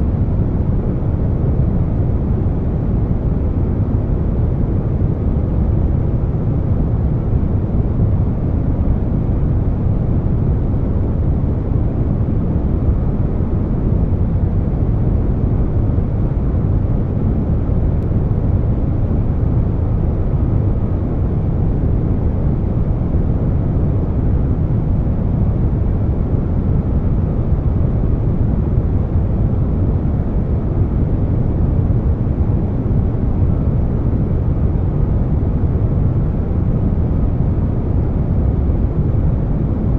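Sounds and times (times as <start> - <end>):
air conditioner hum: 0.0 - 39.9.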